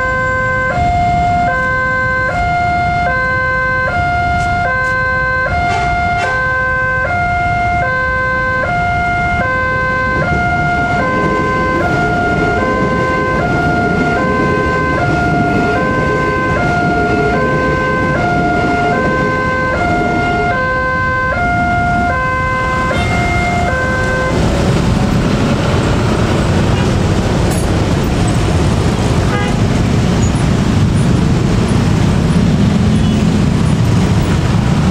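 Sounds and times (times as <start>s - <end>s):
passing train rumble: 0.0s - 34.9s
road traffic: 0.0s - 34.9s.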